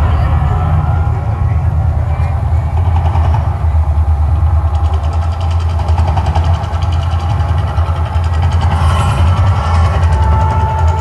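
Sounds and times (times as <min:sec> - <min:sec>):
deep rumble from loudspeakers: 0:00.0 - 0:11.0.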